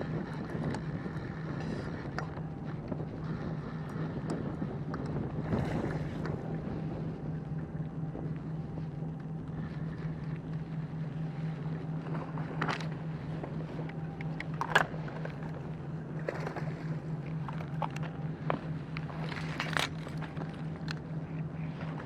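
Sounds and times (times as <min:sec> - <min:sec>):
pulsing low engine hum: 0:00.0 - 0:22.0.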